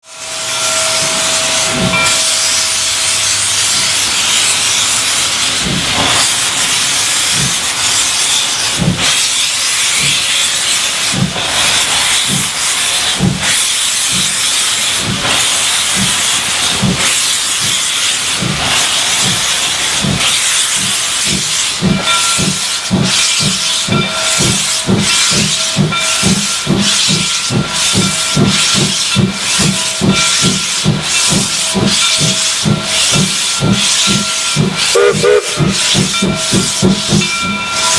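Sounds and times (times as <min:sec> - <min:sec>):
steam locomotive chuffing: 0:00.0 - 0:37.9
steam hissing: 0:00.1 - 0:37.9.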